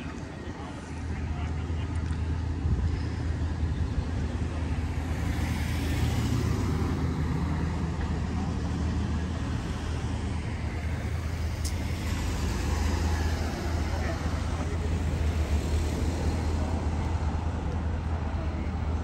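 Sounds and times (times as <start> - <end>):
vehicles passing by: 0.0 - 19.0
tyres hissing on road: 2.9 - 18.9.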